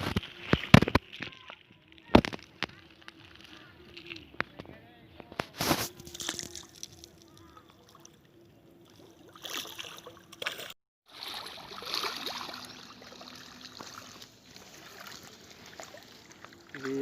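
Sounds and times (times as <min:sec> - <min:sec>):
water splashing and sloshing: 0:00.0 - 0:04.5, 0:05.4 - 0:17.0.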